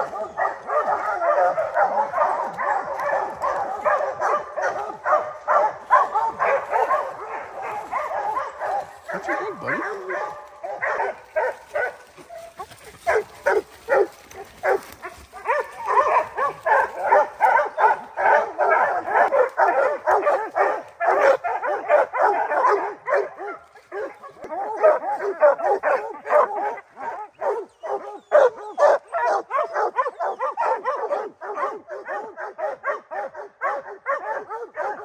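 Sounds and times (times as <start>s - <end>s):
dogs barking: 0.0s - 35.0s
dogs yipping: 0.0s - 35.0s.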